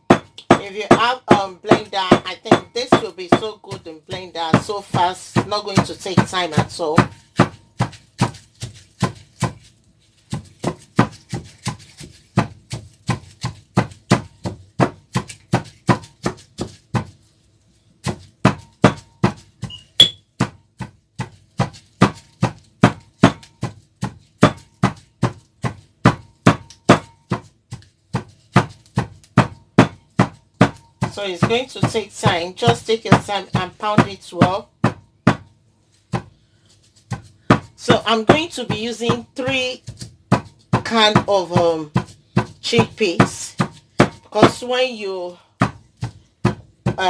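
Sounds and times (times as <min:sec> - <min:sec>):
pestle pounding in a mortar: 0:00.0 - 0:17.4, 0:18.0 - 0:47.0.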